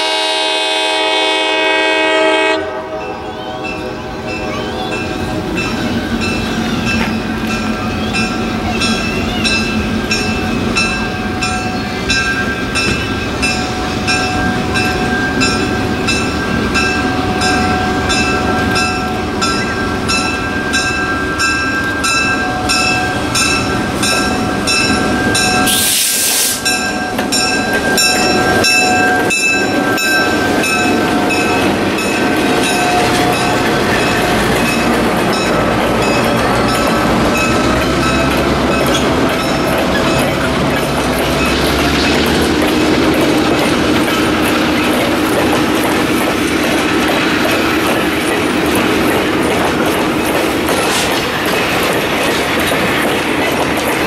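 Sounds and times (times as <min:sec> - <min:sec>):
diesel locomotive engine running: 0:00.0 - 0:54.0
wheels clicking over rail joints: 0:03.6 - 0:54.0.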